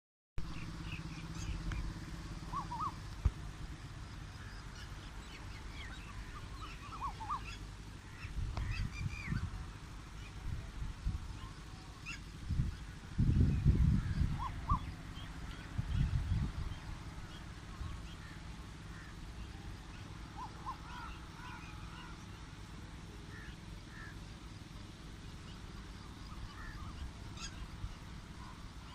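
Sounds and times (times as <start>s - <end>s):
birds chirping: 0.4s - 28.9s
low rumble: 0.4s - 28.9s.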